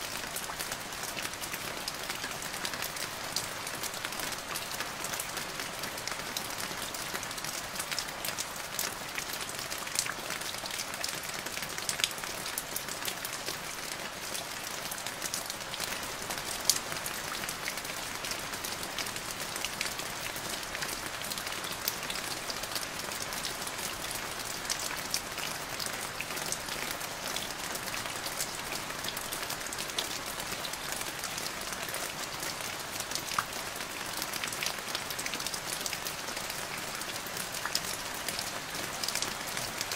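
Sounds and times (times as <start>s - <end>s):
rain falling on a puddle: 0.0s - 39.9s.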